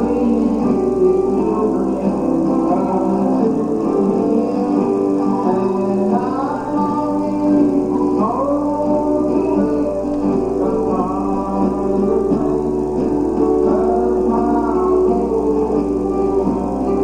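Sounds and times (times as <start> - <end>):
gospel singing: 0.0 - 17.0
guitar accompaniment: 0.0 - 17.0.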